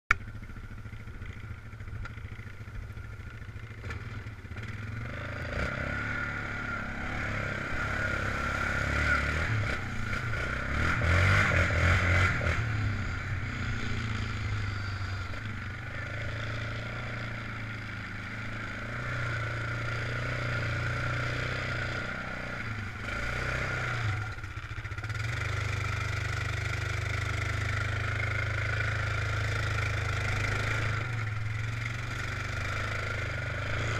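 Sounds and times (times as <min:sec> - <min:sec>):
atv engine revving: 0:00.2 - 0:33.9.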